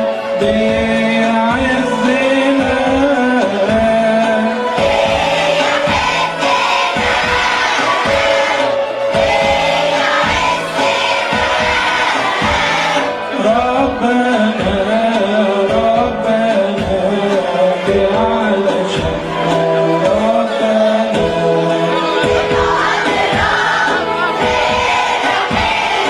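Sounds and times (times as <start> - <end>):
choir singing a hymn: 0.0 - 15.1, 16.9 - 26.0
instrumental accompaniment with beat: 0.0 - 26.0.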